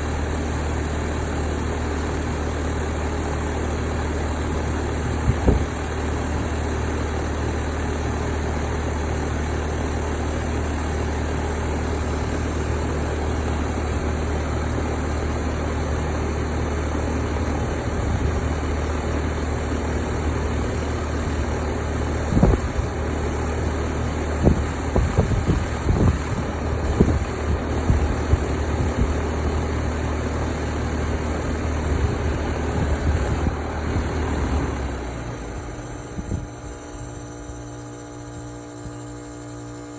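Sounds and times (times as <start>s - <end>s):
air conditioner unit humming: 0.0s - 39.9s.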